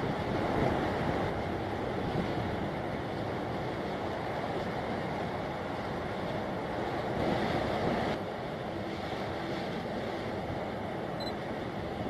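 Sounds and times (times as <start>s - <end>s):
choppy water: 0.0s - 12.0s
wind buffeting microphone: 0.0s - 12.0s.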